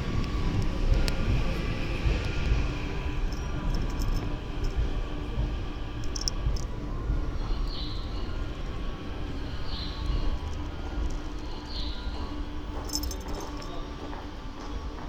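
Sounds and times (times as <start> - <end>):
faint hum: 0.0 - 15.0
train rumbling: 0.0 - 15.0.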